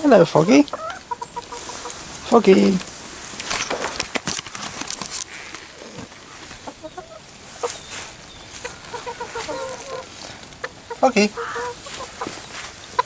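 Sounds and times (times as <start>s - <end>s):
chickens clucking: 0.0s - 13.0s
rustling: 0.0s - 13.0s.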